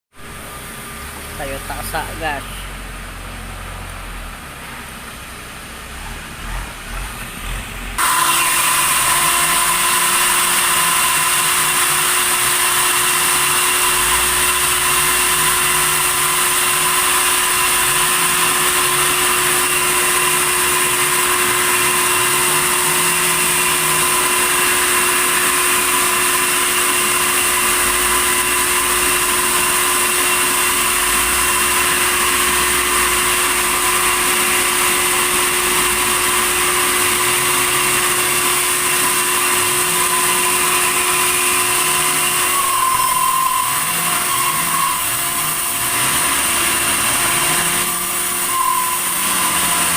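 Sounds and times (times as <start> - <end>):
sawmill saw cutting timber: 0.3 - 2.6, 6.0 - 49.9.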